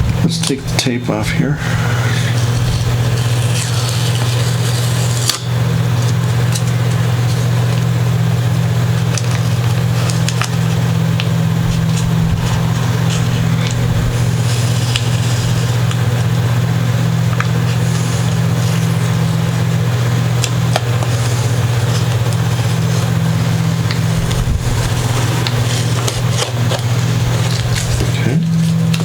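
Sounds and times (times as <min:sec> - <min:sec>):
steady low hum: 0:00.0 - 0:29.0
tape peeling crackles: 0:02.2 - 0:29.0.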